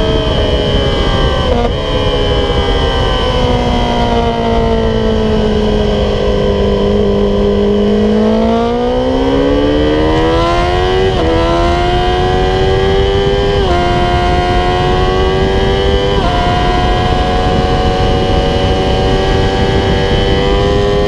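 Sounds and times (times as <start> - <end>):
motorcycle engine revving: 0.0 - 21.0
wind rushing over microphone: 0.0 - 21.0.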